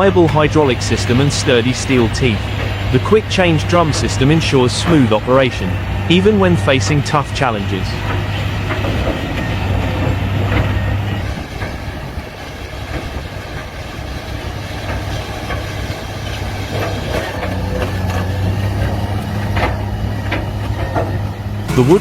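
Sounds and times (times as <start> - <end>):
diesel engine hum: 0.0 - 22.0
shredder mechanical clatter: 0.0 - 22.0.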